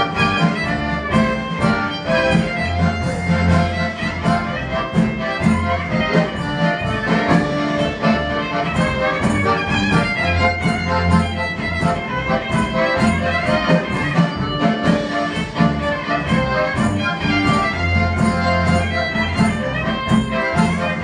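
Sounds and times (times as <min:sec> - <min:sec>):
band playing instrumental music: 0:00.0 - 0:21.0.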